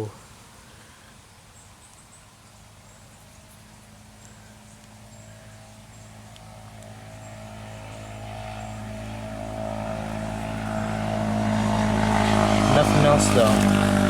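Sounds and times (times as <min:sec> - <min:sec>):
approaching engine hum: 0:02.5 - 0:14.0.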